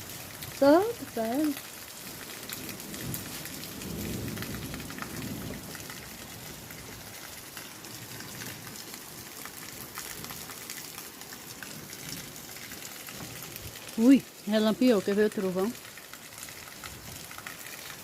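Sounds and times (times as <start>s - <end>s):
heavy rain pouring: 0.0s - 18.0s
raindrops spattering: 0.0s - 18.0s.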